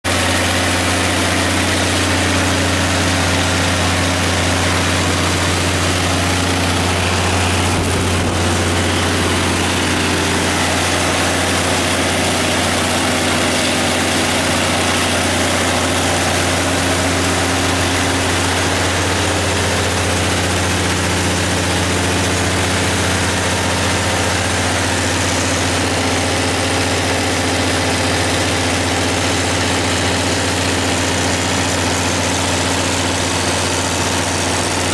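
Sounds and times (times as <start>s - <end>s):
diesel generator engine running: 0.0s - 34.9s.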